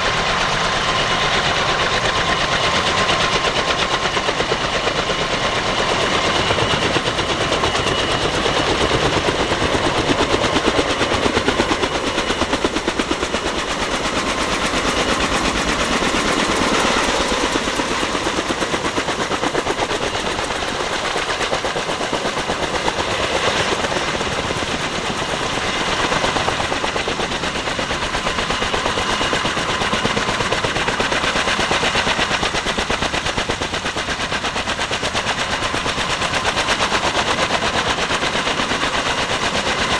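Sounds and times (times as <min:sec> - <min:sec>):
helicopter rotors chopping: 0:00.0 - 0:39.9.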